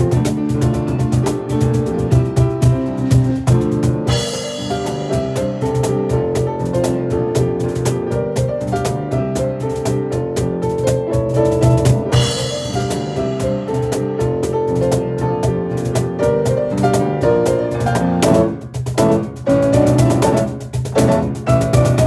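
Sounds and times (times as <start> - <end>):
driving percussion beat: 0.0 - 22.0
fast piano runs: 0.0 - 22.0.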